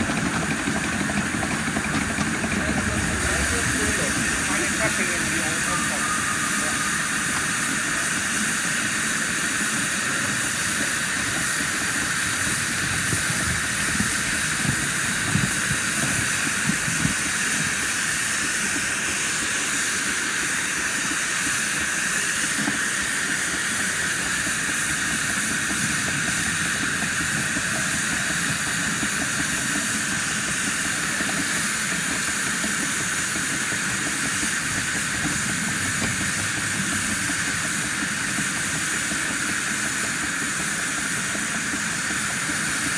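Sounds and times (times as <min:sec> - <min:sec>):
steam hissing from model locomotive: 0:00.0 - 0:42.9.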